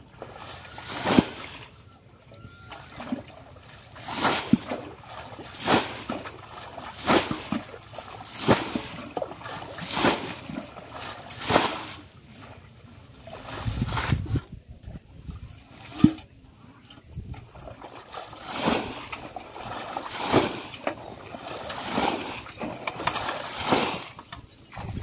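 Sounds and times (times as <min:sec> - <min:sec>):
water sloshing from wading: 0:00.0 - 0:25.0
water splashing from basin: 0:00.1 - 0:01.8, 0:02.6 - 0:14.4, 0:17.4 - 0:25.0.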